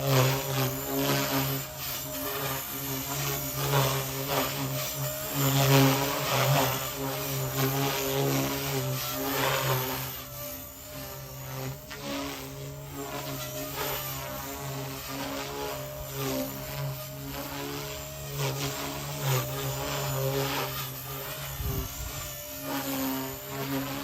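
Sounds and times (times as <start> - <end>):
rc helicopter motor and rotor buzz: 0.0 - 24.0.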